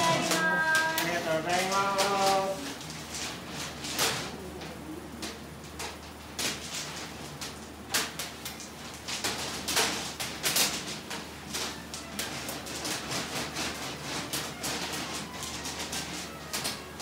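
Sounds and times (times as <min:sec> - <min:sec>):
hard candy and tools clacking: 0:00.0 - 0:04.4, 0:05.2 - 0:17.0
steady low hum: 0:00.0 - 0:17.0.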